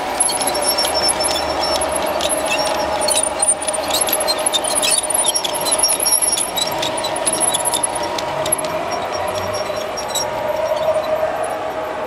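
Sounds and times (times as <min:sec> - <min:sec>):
scattered clicks: 0:00.0 - 0:11.6
train wheels squealing: 0:00.0 - 0:12.0.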